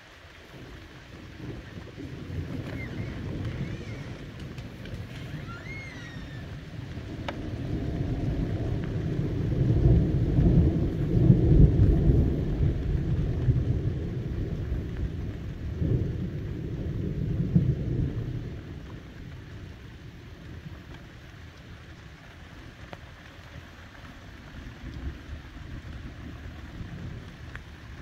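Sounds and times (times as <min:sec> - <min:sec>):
rain falling: 0:00.0 - 0:28.0
thunder rumbling: 0:00.3 - 0:28.0.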